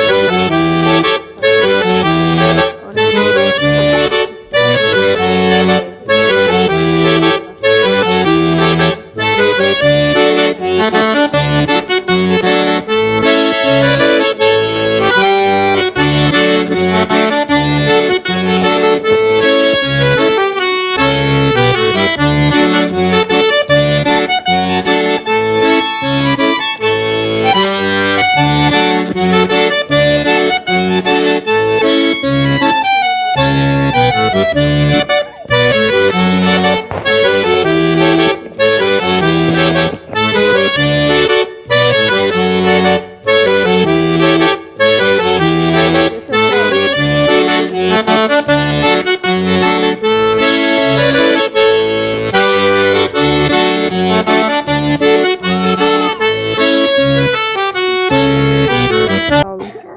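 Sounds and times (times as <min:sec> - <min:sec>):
accordion music: 0:00.0 - 0:59.9.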